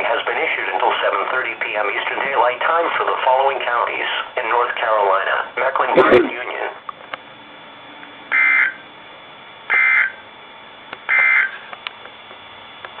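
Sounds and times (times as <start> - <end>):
radio background hiss: 0.0 - 10.5, 11.1 - 13.0.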